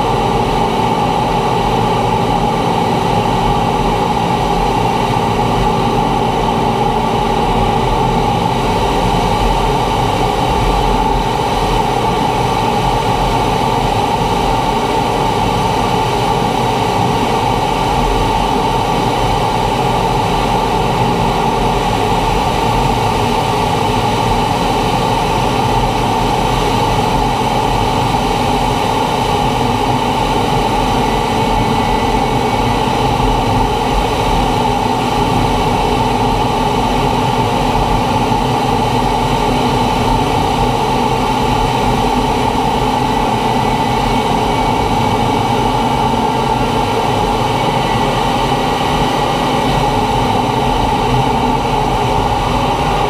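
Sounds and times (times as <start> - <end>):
jet engine drone: 0.0 - 53.0.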